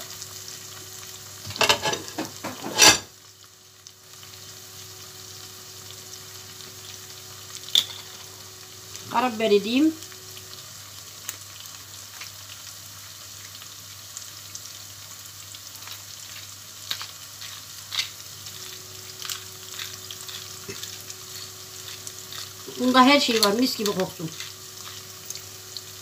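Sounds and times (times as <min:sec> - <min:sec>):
meat sizzling in a pot: 0:00.0 - 0:26.0.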